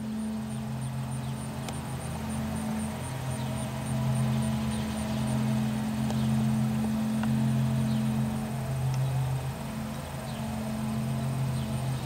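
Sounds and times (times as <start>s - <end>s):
insect chirping: 0.0s - 12.0s
low mechanical hum: 0.0s - 12.0s.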